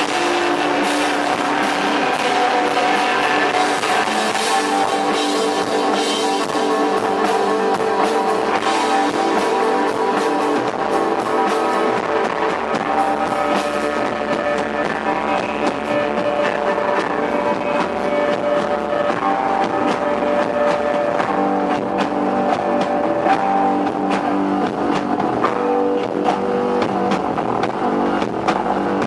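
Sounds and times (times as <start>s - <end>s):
drum kit with cymbals: 0.0s - 29.0s
electric guitar sustained tones: 0.0s - 29.0s.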